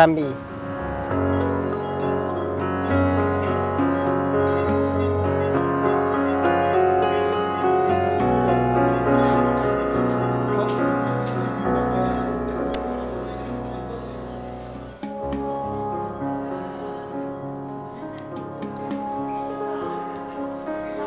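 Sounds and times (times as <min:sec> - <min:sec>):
instrumental music with sustained chords: 0:00.0 - 0:21.0.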